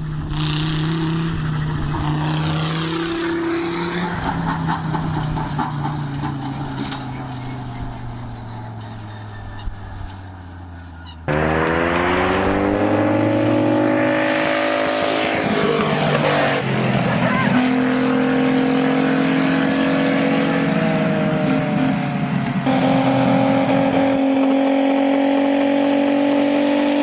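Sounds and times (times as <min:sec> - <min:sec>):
engine revving up: 0:00.0 - 0:27.0
vehicle engine moving away: 0:00.0 - 0:27.0.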